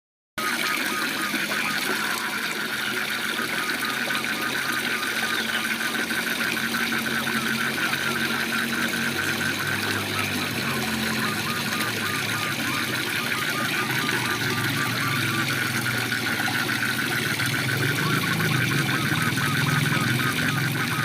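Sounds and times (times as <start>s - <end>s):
small animals calling: 0.4s - 21.0s.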